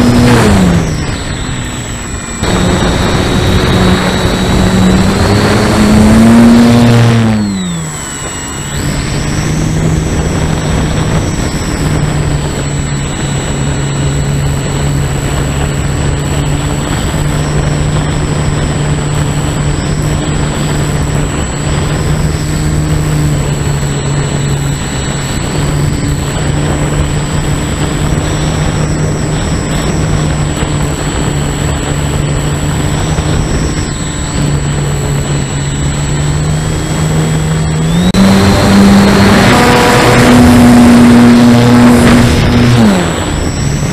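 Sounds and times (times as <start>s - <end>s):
model plane motor buzzing: 0.0s - 43.9s.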